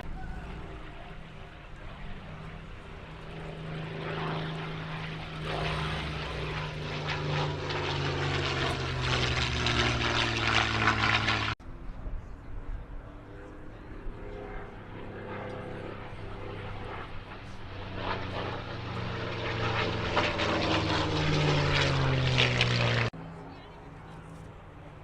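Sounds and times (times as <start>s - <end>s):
propeller plane engine passing low: 0.0s - 25.0s.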